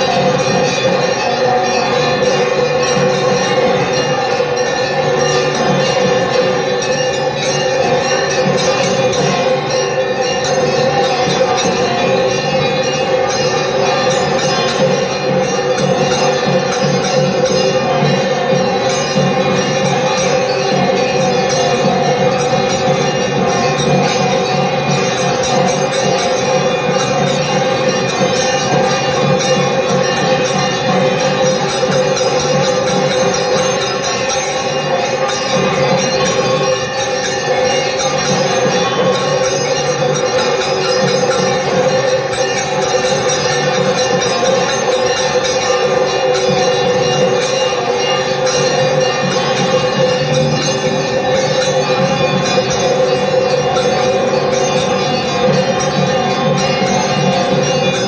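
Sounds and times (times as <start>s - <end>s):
bells ringing rapidly: 0.0s - 58.0s.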